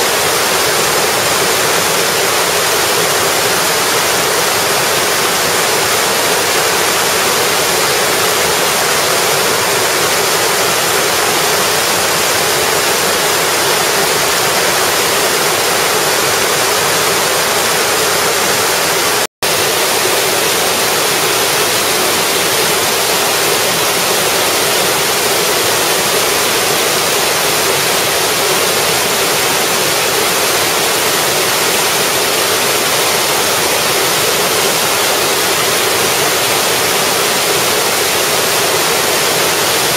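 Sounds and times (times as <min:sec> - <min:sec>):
waterfall rushing onto rocks: 0:00.0 - 0:39.9.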